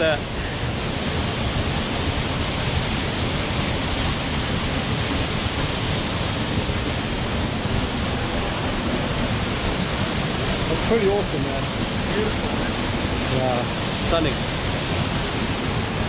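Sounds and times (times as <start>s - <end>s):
waterfall crashing into pool: 0.0s - 16.0s.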